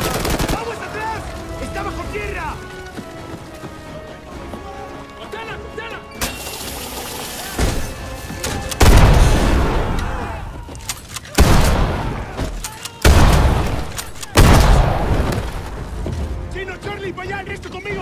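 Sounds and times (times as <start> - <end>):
film score: 0.0 - 18.0.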